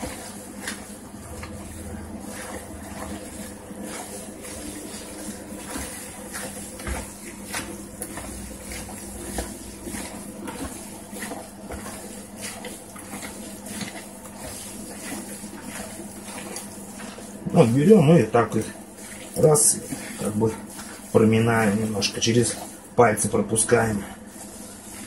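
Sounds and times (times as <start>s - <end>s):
hands squelching wet minced meat: 0.0s - 25.0s.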